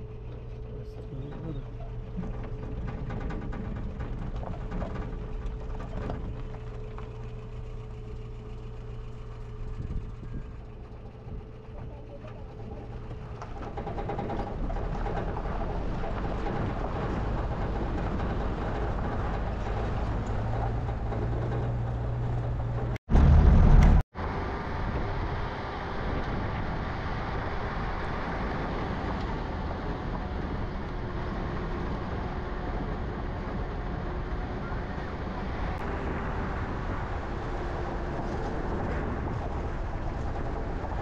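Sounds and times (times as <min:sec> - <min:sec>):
loud low rumble: 0:00.0 - 0:41.0
road noise: 0:00.0 - 0:41.0
vehicle engine running: 0:00.0 - 0:41.0.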